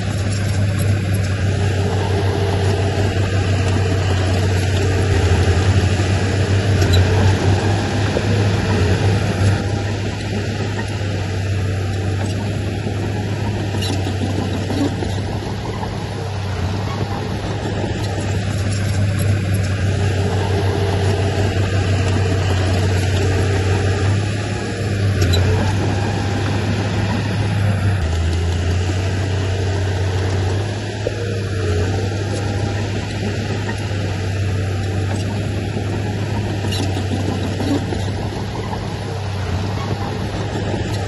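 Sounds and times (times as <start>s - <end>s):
heavy machinery diesel engine: 0.0s - 41.0s.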